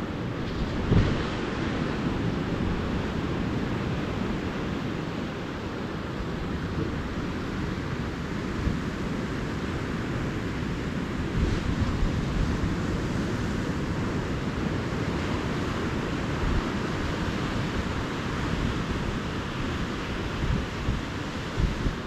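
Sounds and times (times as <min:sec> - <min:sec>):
ocean surf washing on beach: 0:00.0 - 0:22.0
wind buffeting microphone: 0:00.0 - 0:22.0.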